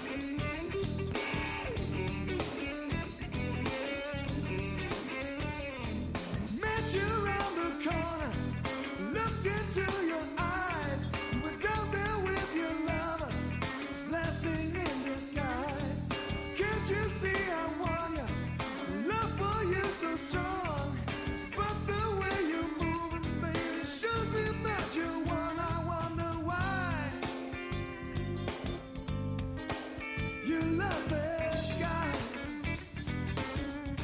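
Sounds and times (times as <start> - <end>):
bass guitar: 0.0 - 34.0
drums: 0.0 - 34.0
electric guitar: 0.0 - 34.0.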